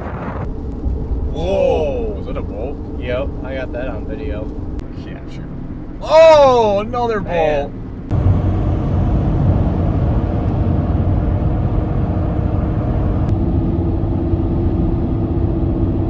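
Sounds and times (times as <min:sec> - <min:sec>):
car interior road and engine noise: 0:00.0 - 0:16.0.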